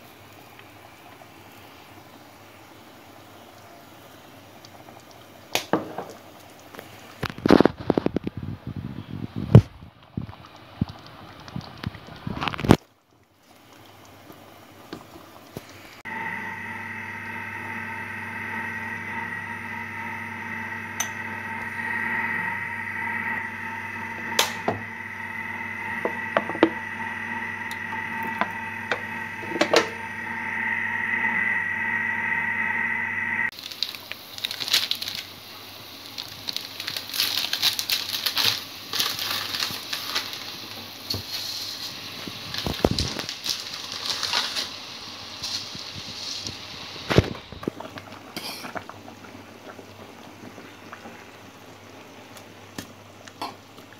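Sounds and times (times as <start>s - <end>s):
water bubbling at a boil: 0.0s - 32.0s, 33.5s - 53.9s
stovetop hum with high whine: 0.0s - 53.9s.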